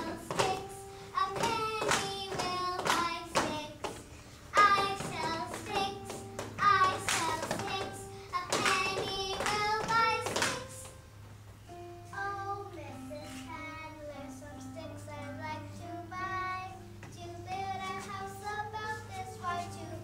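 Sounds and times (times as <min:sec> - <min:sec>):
girl singing: 0:00.0 - 0:11.0, 0:11.7 - 0:20.0
held musical tones: 0:00.0 - 0:20.0.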